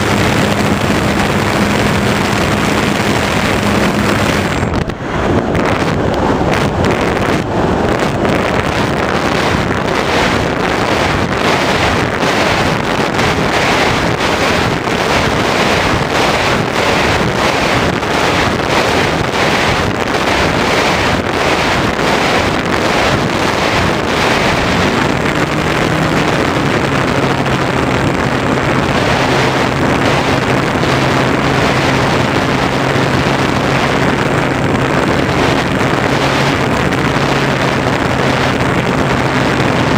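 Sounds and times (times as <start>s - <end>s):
electric motor and propeller drone: 0.0s - 39.9s
wind rushing over camera: 0.0s - 39.9s.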